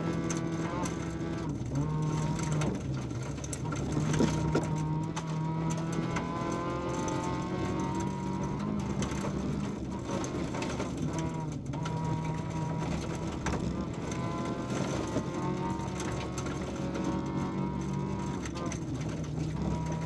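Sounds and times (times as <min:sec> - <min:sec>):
gravel striking car: 0:00.0 - 0:20.0
rally car engine revving: 0:00.0 - 0:20.0.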